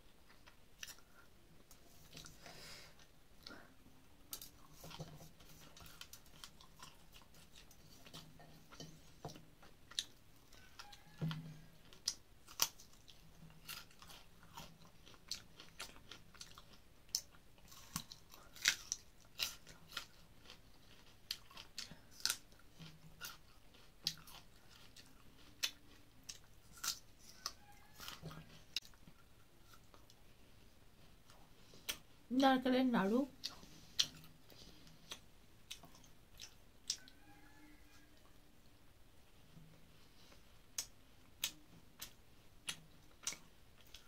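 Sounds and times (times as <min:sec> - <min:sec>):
person chewing crunchy food: 0:00.2 - 0:32.3, 0:33.3 - 0:37.3, 0:39.4 - 0:44.0.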